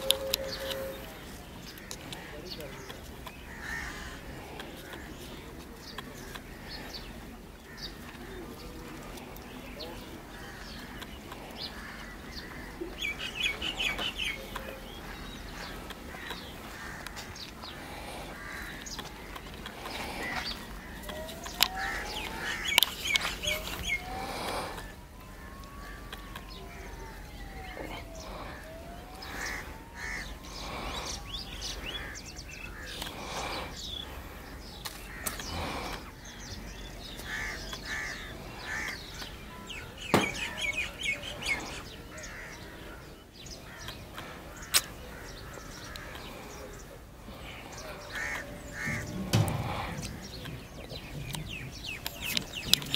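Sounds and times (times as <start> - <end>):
birds chirping: 0.0 - 52.9
crows cawing: 1.7 - 5.2, 6.5 - 8.5, 10.3 - 52.9.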